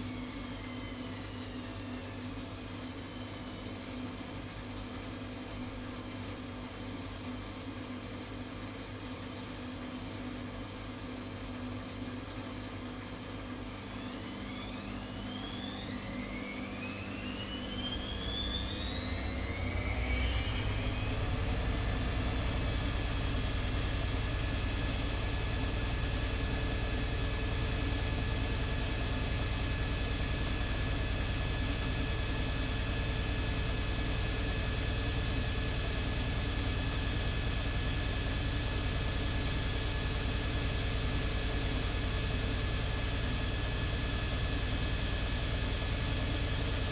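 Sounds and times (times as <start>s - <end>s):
washing machine motor whine: 0.0s - 6.1s, 11.0s - 46.9s.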